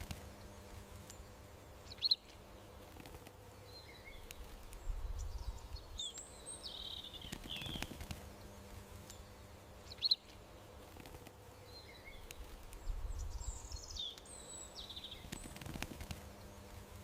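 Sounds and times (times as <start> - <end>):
faint low background noise: 0.0 - 17.0
small birds chirping: 0.0 - 17.0.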